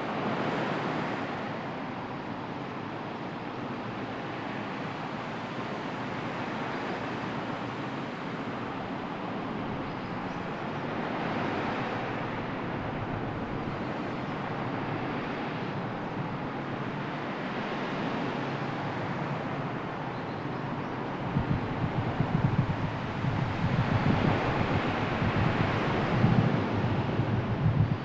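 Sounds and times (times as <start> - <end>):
sea surf washing: 3.8 - 28.0.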